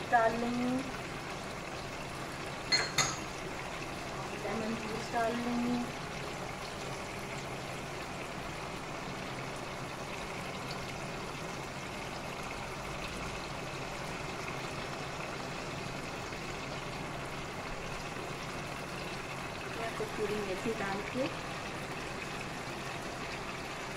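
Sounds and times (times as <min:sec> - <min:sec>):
sauce sizzling in a wok: 0:00.0 - 0:23.9.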